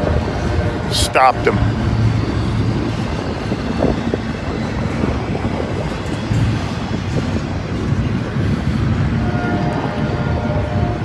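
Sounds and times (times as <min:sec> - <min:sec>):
freight train rumbling by: 0:00.0 - 0:11.0
wind buffeting microphone: 0:00.0 - 0:11.0.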